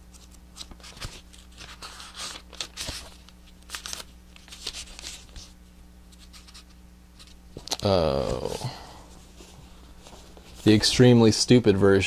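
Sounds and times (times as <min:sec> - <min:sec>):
faint electrical hum: 0:00.0 - 0:12.0
book pages rustling: 0:00.1 - 0:10.8.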